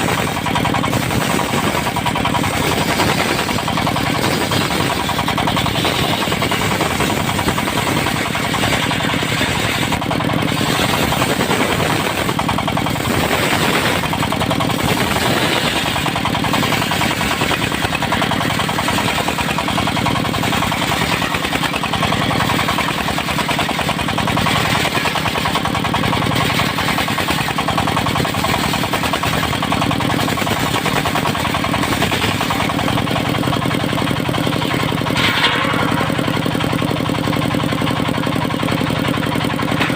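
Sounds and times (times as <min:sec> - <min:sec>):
sawmill engine chugging: 0:00.0 - 0:39.9.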